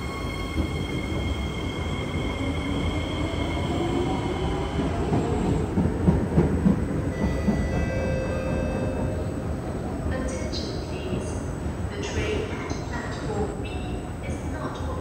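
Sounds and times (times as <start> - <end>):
metro train high whine: 0.0 - 15.0
rail noise: 0.0 - 15.0.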